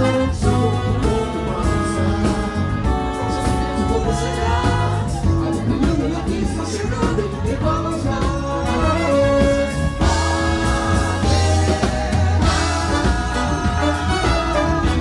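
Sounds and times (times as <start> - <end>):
live samba band playing: 0.0 - 15.0.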